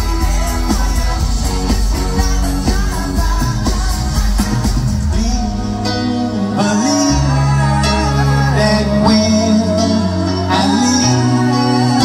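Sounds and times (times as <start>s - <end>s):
man singing: 0.0s - 12.0s
pop-rock band playing live: 0.0s - 12.0s.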